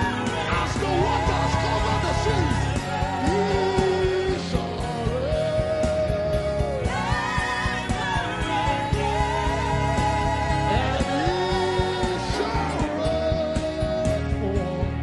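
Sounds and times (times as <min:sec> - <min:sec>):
band accompaniment with beat: 0:00.0 - 0:15.0.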